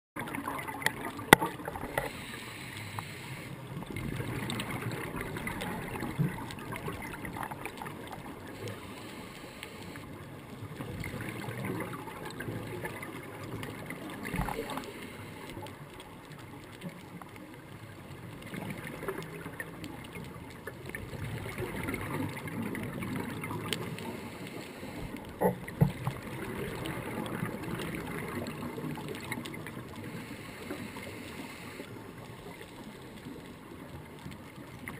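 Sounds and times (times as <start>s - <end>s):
regulator bubbles gurgling underwater: 0.2s - 34.9s.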